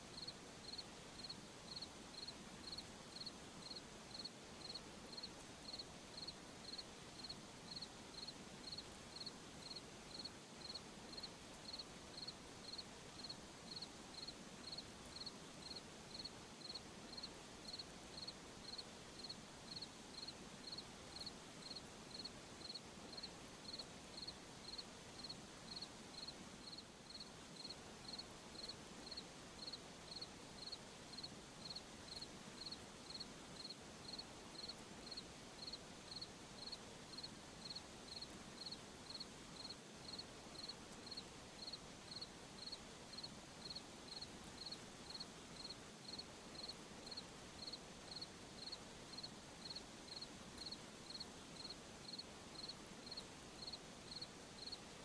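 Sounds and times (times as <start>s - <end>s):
faint even hiss: 0.0s - 55.0s
cricket chirping: 0.1s - 54.8s.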